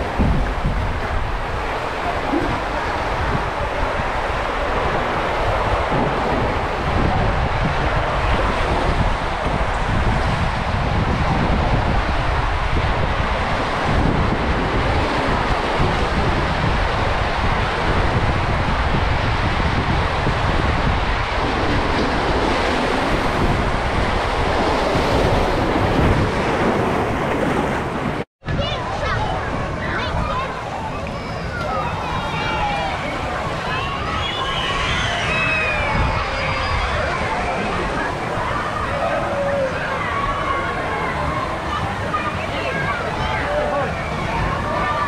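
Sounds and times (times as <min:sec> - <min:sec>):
water rushing through slide: 0:00.0 - 0:45.0.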